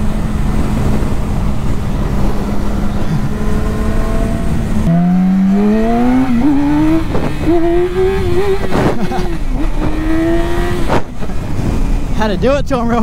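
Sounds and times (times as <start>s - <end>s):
motorcycle engine accelerating: 0.0s - 12.0s
wind noise: 0.0s - 13.0s.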